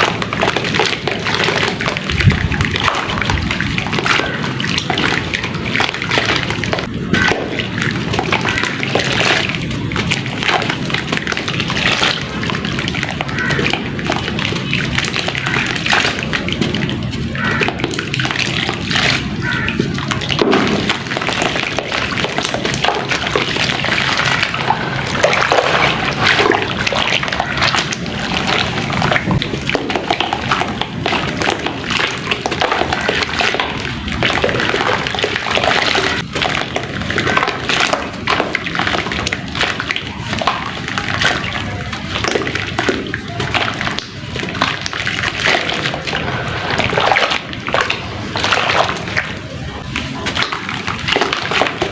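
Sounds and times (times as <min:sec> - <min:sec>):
wet mix sloshing and splashing: 0:00.0 - 0:51.9.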